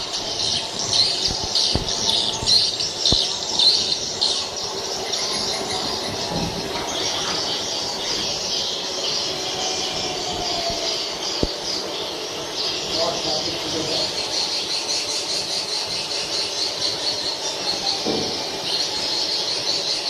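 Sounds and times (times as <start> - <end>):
birds twittering chorus: 0.0 - 20.0.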